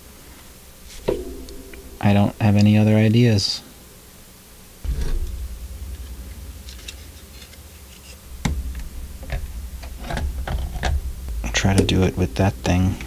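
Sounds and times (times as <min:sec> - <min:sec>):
low steady hum: 0:00.0 - 0:04.0, 0:04.6 - 0:13.0.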